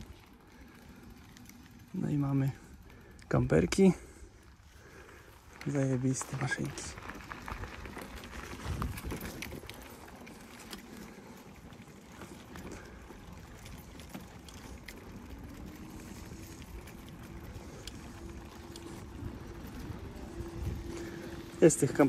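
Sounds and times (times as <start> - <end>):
bicycle clicks and rattles: 0.0 - 22.0
bicycle tyres rumbling: 0.0 - 22.0.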